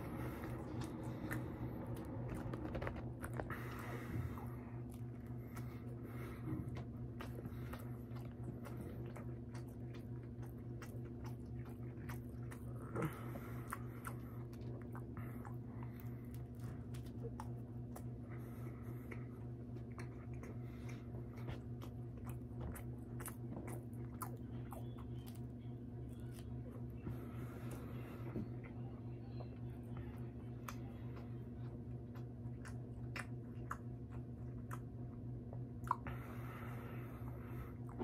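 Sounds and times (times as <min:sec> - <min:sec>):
person chewing food: 0:00.0 - 0:38.0
steady low hum: 0:00.0 - 0:38.0.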